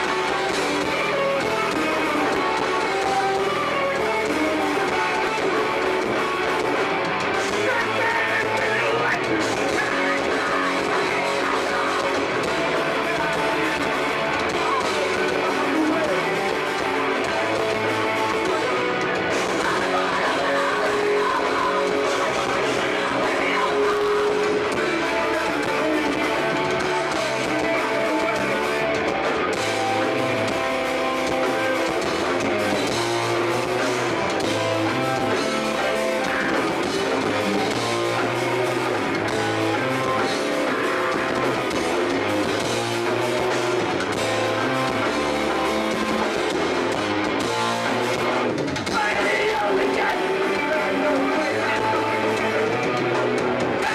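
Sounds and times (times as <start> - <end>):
bass: 0.0 - 53.9
drums: 0.0 - 53.9
electric guitars strummed: 0.0 - 53.9.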